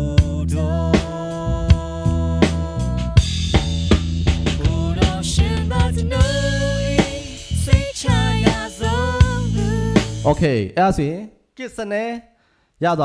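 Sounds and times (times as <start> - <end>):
drum kit beating: 0.0 - 10.5
bass line: 0.0 - 10.7.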